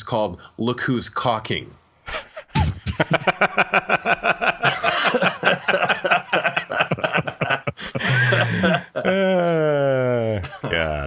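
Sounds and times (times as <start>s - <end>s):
men laughing: 2.1s - 11.0s.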